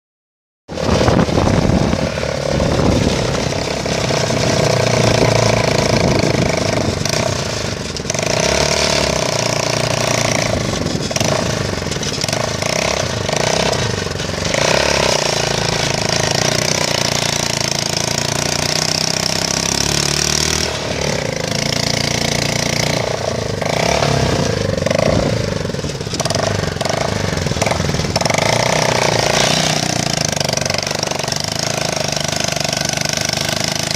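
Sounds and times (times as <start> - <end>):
vehicle engine and road noise: 0.7 - 33.9.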